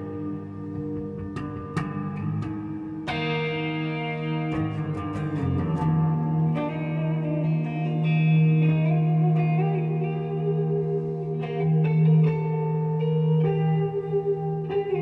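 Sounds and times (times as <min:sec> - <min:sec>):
electric guitar: 0:00.0 - 0:15.0.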